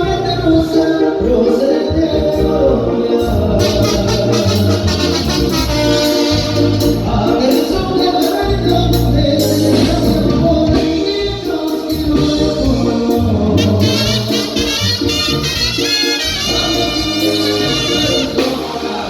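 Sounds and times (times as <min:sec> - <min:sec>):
brass band playing: 0:00.0 - 0:19.0
tuba bass line: 0:00.0 - 0:19.0.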